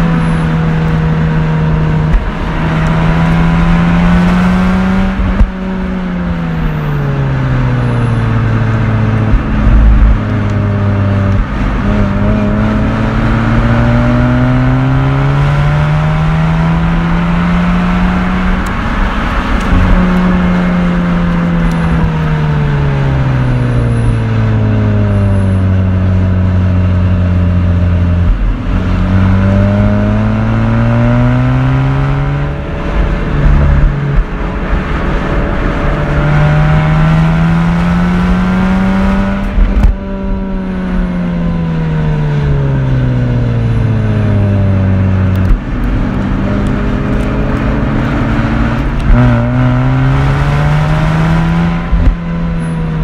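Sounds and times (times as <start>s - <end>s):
rotary engine revving: 0.0s - 6.5s, 7.1s - 53.0s.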